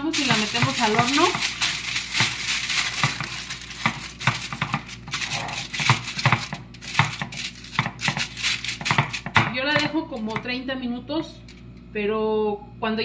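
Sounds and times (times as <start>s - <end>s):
aluminium foil crinkling: 0.0s - 10.4s.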